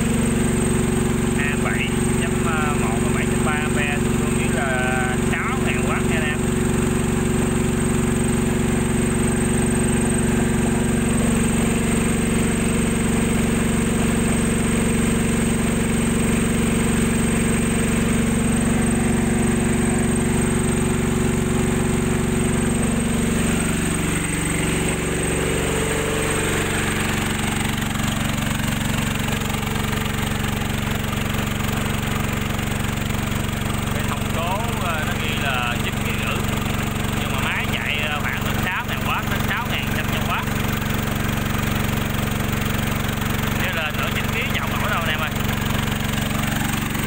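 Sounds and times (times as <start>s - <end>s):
generator engine running: 0.0s - 47.0s.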